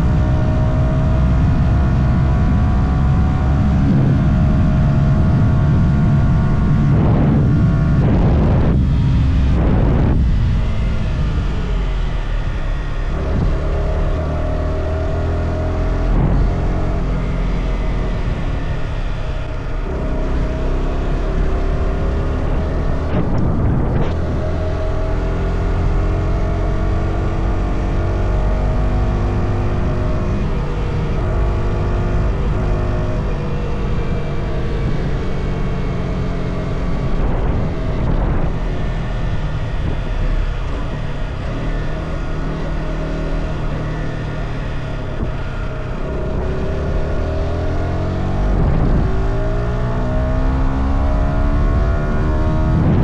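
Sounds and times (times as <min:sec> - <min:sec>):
motorcycle engine running: 0:00.0 - 0:53.0
wind and road rumble: 0:00.0 - 0:53.0.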